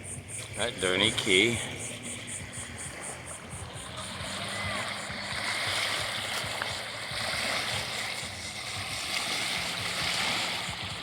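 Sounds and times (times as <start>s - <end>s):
water washing along shore: 0.0s - 11.0s.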